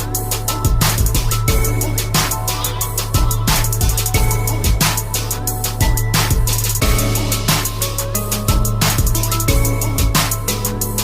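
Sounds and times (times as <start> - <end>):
drum kit beat: 0.0 - 11.0
held bass line: 0.0 - 11.0.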